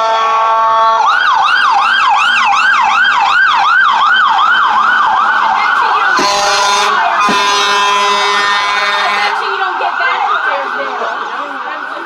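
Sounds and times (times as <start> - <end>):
fire truck siren yelping: 0.0 - 12.0
steady buzzy siren tone: 0.0 - 12.0.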